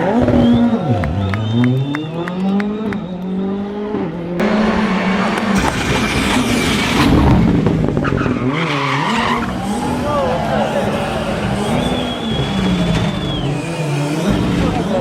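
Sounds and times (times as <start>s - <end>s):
rally car engines revving: 0.0s - 15.0s.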